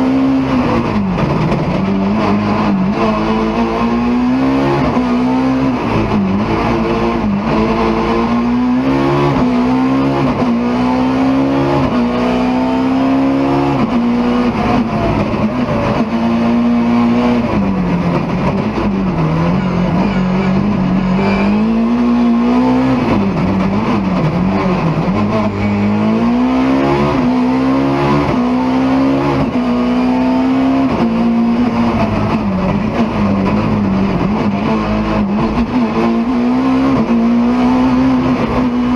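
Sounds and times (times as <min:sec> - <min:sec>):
rally car engine accelerating: 0:00.0 - 0:38.9.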